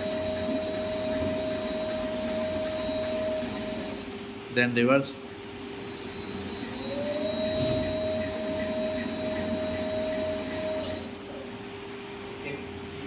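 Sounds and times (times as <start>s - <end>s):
dough sheeter motor whine: 0.0s - 4.5s, 5.2s - 13.0s.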